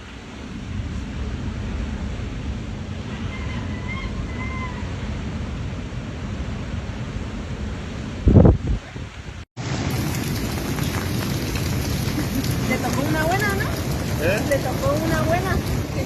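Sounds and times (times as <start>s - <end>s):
wind buffeting microphone: 0.4s - 16.0s.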